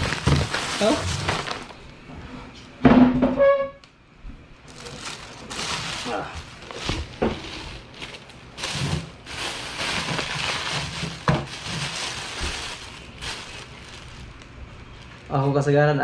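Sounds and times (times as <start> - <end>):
plastic bag rustling: 0.0 - 2.1, 4.6 - 15.7.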